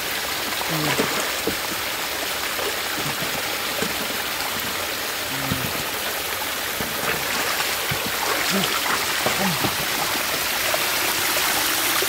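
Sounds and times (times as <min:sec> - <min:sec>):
water pouring over rocks: 0:00.0 - 0:12.0.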